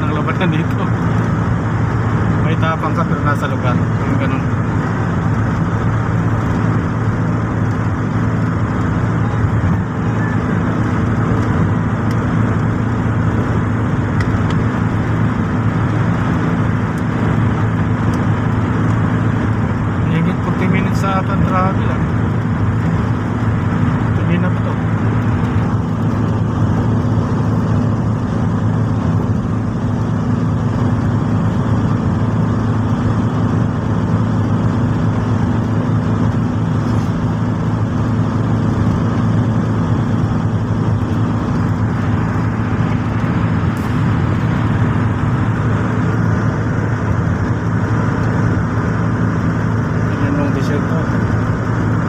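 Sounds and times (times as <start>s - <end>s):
car cabin road and engine drone: 0.0s - 52.0s.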